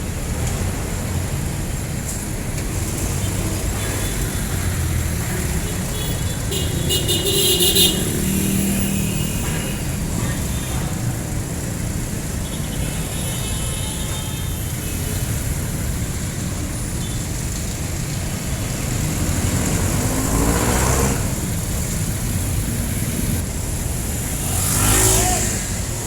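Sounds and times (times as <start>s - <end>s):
engine rumble of street traffic: 0.0s - 26.0s
vehicles passing close: 0.0s - 26.0s.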